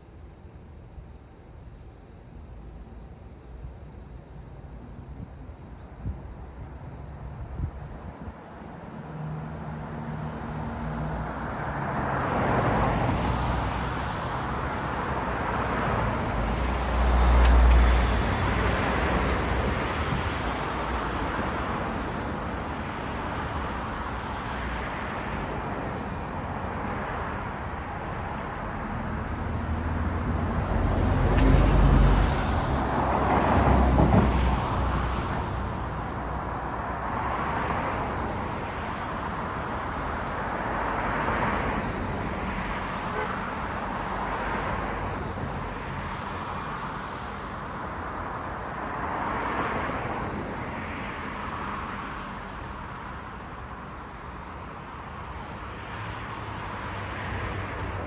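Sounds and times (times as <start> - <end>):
cars passing: 9.2 - 58.0.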